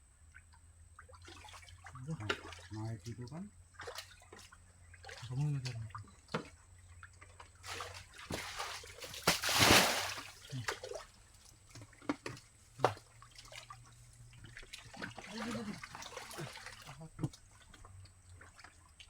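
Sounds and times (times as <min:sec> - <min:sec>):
muddy water splashing: 0:01.0 - 0:19.0.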